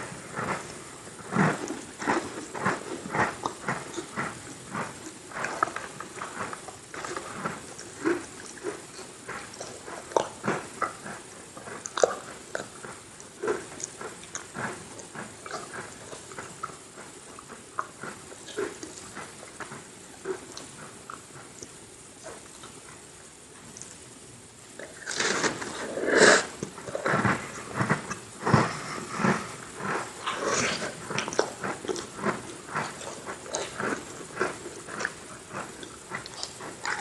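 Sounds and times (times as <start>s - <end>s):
crunchy cookie chewing: 0.0s - 37.0s.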